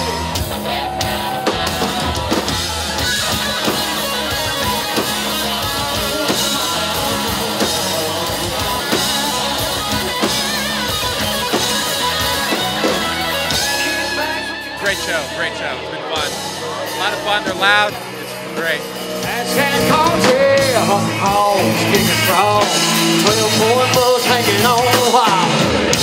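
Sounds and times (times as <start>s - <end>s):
drum kit steady beat: 0.0s - 15.6s, 16.2s - 26.0s
electric guitar: 0.0s - 26.0s.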